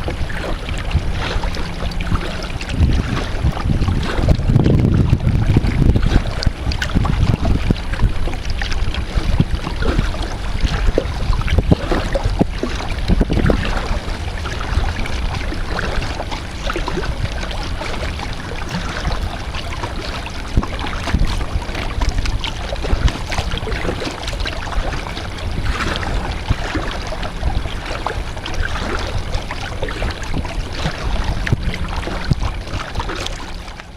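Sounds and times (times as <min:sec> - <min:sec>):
paddle splashing in water: 0:00.0 - 0:33.9
wind buffeting microphone: 0:00.0 - 0:33.9.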